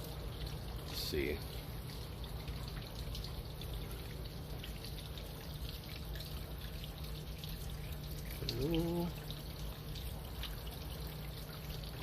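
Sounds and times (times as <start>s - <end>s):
low steady hum: 0.0s - 12.0s
water trickling and dripping: 0.0s - 12.0s.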